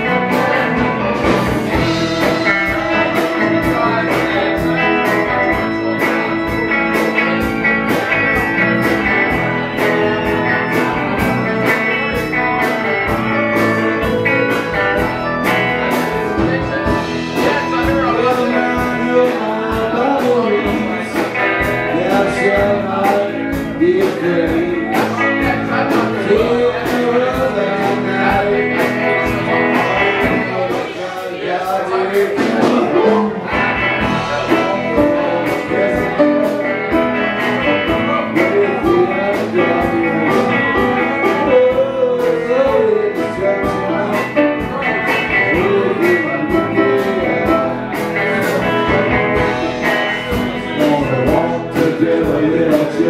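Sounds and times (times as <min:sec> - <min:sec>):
live band playing: 0:00.0 - 0:53.0
man singing: 0:00.0 - 0:53.0.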